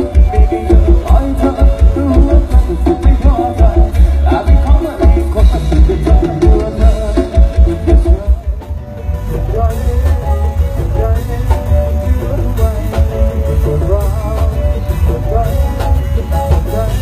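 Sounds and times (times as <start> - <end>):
wavering melody over heavy bass: 0.0 - 17.0.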